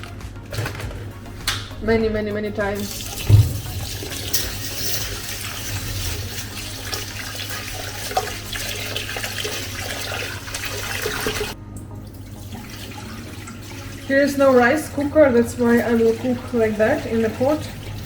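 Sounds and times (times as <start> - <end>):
tap water running into pot: 2.8 - 18.0.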